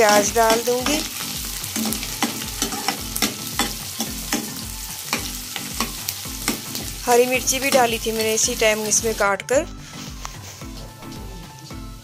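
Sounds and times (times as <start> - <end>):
onions sizzling in hot oil: 0.0 - 10.8.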